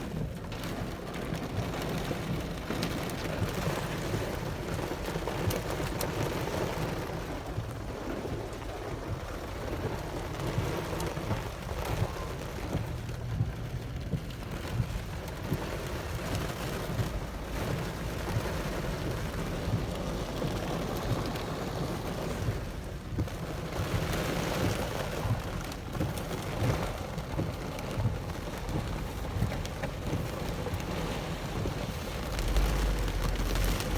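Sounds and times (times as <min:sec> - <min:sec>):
continuous low rumble: 0:00.0 - 0:33.9
rain pattering: 0:00.0 - 0:33.9.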